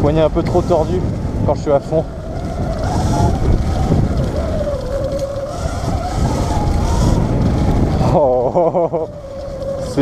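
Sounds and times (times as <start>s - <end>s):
electric motor whine: 0.0s - 10.0s
wind buffeting microphone: 0.0s - 10.0s.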